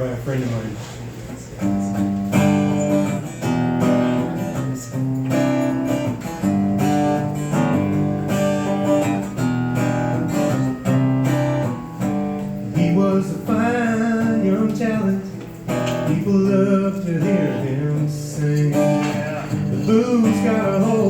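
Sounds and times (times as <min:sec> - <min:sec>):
acoustic guitar strumming chords: 0:01.6 - 0:21.0.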